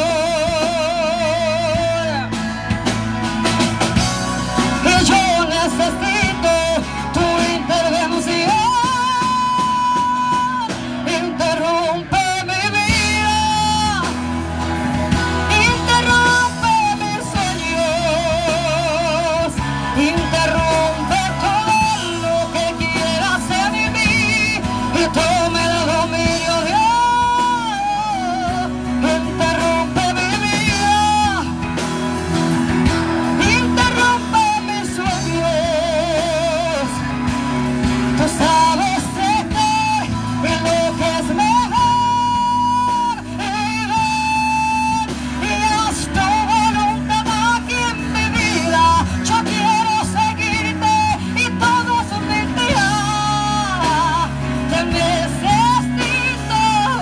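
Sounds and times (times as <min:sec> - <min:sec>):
woman singing with vibrato: 0:00.0 - 0:02.4, 0:04.7 - 0:14.4, 0:15.3 - 0:31.7, 0:33.2 - 0:57.0
band with guitar and drums: 0:00.0 - 0:57.0.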